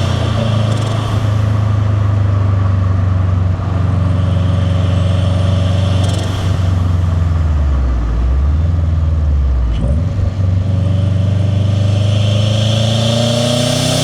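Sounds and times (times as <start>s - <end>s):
deep car engine rumble: 0.0s - 14.0s.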